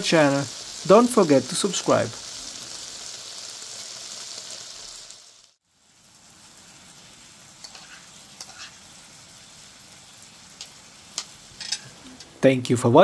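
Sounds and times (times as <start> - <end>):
meat sizzling on a grill: 0.0 - 12.3.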